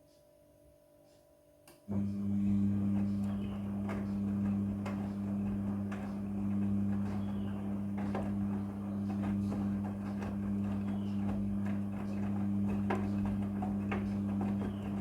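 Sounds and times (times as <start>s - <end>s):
washing machine motor hum: 1.9s - 15.0s
washing machine click: 2.8s - 15.0s.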